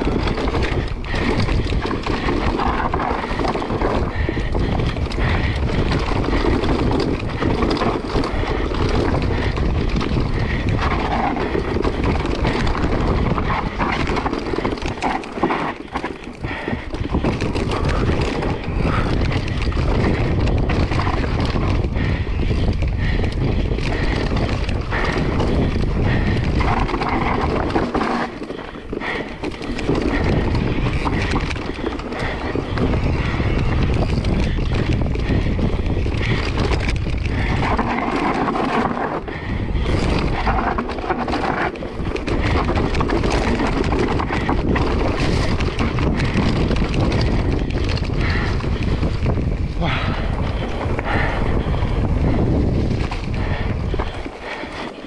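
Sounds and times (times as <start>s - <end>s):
mountain bike rattling: 0.0s - 55.0s
wind buffeting microphone: 0.0s - 55.0s.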